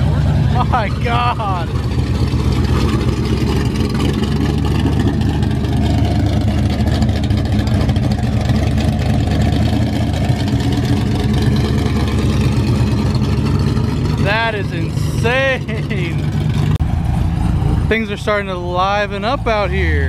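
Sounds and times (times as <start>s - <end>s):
car engine deep exhaust note: 0.0s - 20.0s.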